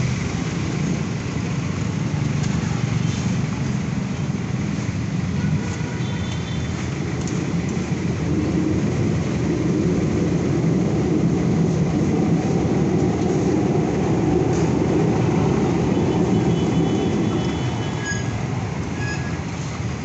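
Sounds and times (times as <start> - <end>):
engines running nearby: 0.0 - 20.0
street traffic rumble: 0.0 - 20.0.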